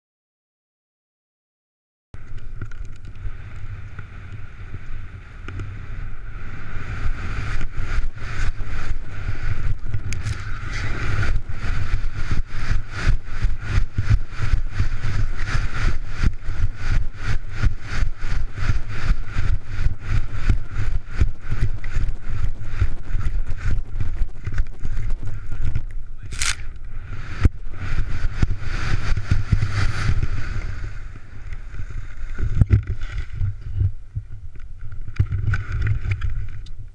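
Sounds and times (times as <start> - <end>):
skis scraping over hard snow: 2.2 - 36.9
wind buffeting camera: 2.2 - 36.9.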